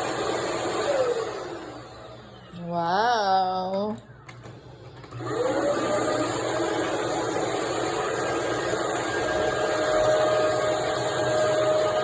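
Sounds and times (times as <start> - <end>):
vacuum cleaner running: 0.0 - 12.0
vacuum whine: 0.0 - 12.0.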